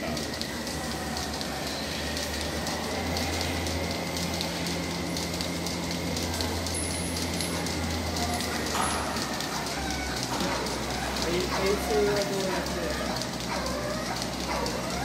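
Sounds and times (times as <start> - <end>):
milking machinery hum and hiss: 0.0 - 15.0.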